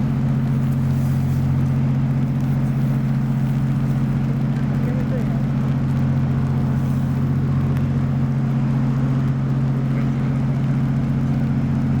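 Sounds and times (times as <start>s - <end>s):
large engine droning: 0.0s - 12.0s.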